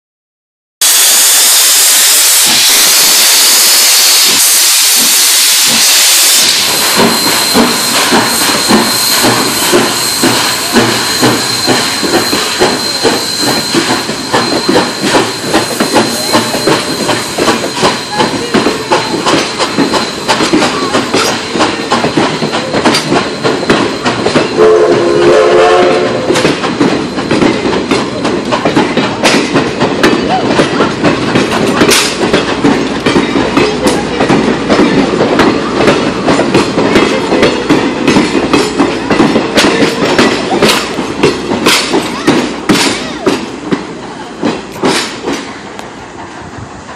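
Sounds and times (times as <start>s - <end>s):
steam locomotive hiss: 0.8s - 46.9s
train wheels clacking on rail joints: 3.7s - 46.9s.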